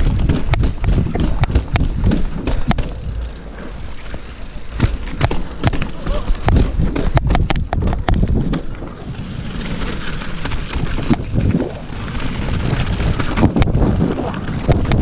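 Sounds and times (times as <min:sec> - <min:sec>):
bike hitting rocks: 0:00.0 - 0:15.0
bike rolling on rough trail: 0:00.0 - 0:15.0
wind buffeting microphone: 0:00.0 - 0:15.0.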